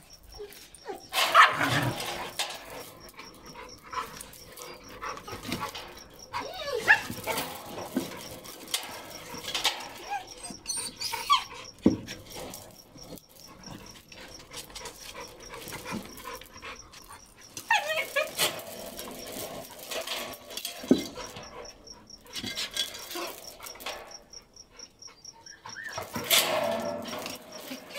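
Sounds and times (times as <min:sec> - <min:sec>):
dogs panting: 0:00.1 - 0:27.9
dogs whimpering: 0:00.2 - 0:27.9
dog whining: 0:00.3 - 0:20.3, 0:25.2 - 0:27.9.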